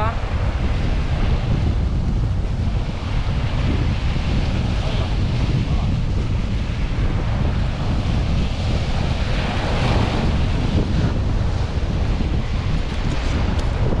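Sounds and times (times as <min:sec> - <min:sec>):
sea surf against rocks: 0:00.0 - 0:14.0
wind buffeting microphone: 0:00.0 - 0:14.0.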